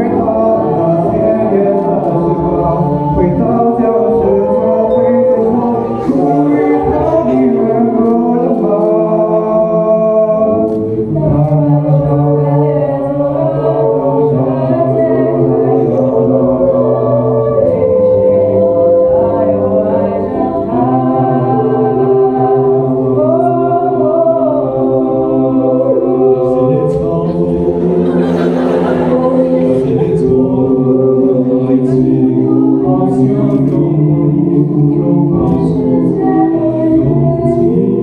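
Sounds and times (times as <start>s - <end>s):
a cappella group singing: 0.0s - 38.0s.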